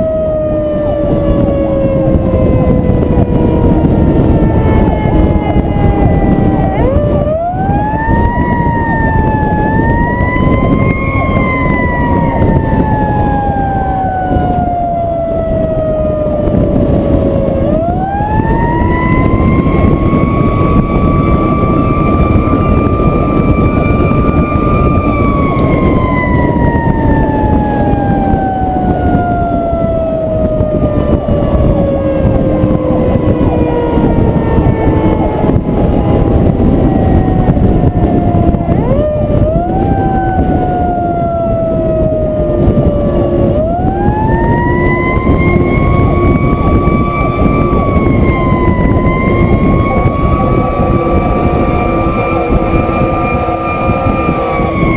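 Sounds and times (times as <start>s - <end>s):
fire truck siren wailing: 0.0s - 54.9s
wind and road noise: 0.0s - 54.9s.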